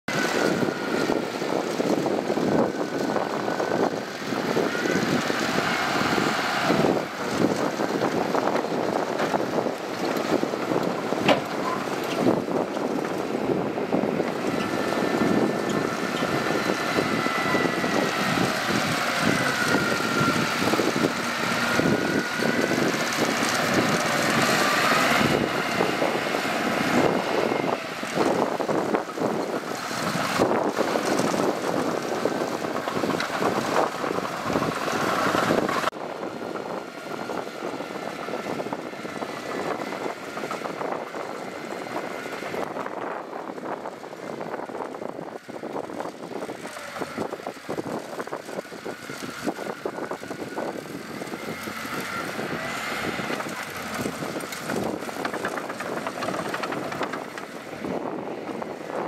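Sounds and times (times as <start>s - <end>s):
bulldozer diesel engine running: 0.1s - 59.0s.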